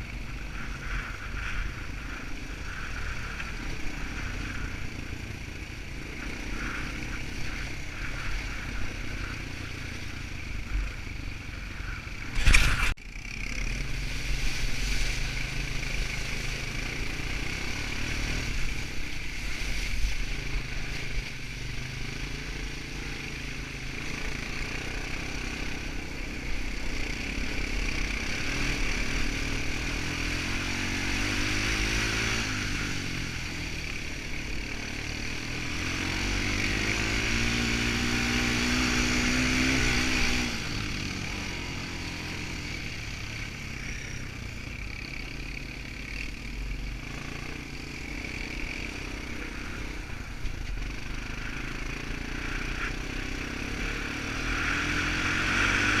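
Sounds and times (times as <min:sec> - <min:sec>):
quad bike engine: 0:00.0 - 0:56.0.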